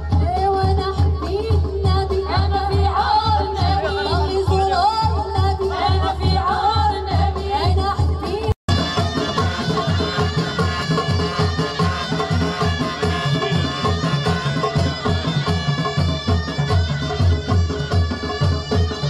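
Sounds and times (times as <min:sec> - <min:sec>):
fast drum beat: 0:00.0 - 0:19.0.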